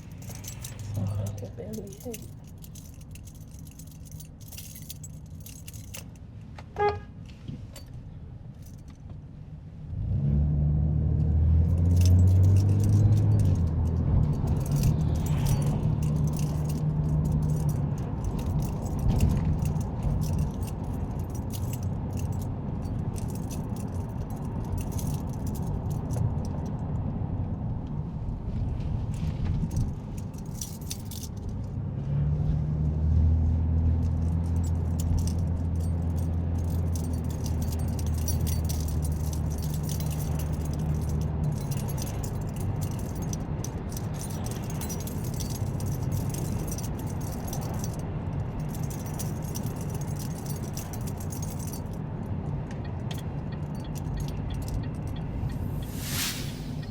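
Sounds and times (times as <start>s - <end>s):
keys jangling: 0.0s - 6.9s, 7.7s - 9.1s, 11.4s - 26.8s, 29.1s - 31.7s, 34.0s - 56.9s
engine and road noise: 0.0s - 56.9s.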